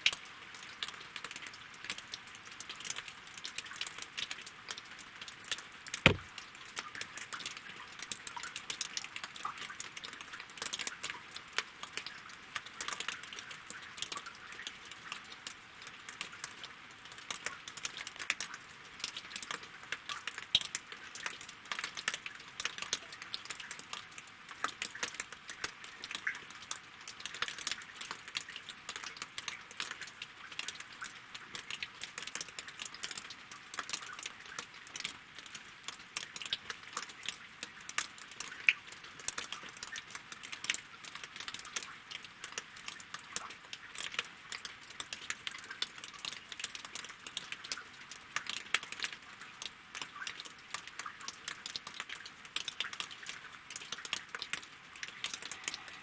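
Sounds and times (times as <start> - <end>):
rain pattering on water and wood: 0.0 - 56.0.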